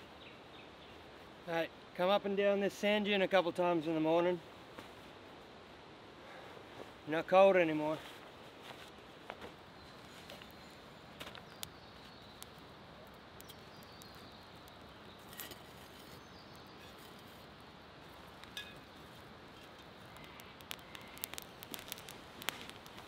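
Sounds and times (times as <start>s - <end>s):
faint outdoor background hiss: 0.0s - 23.0s.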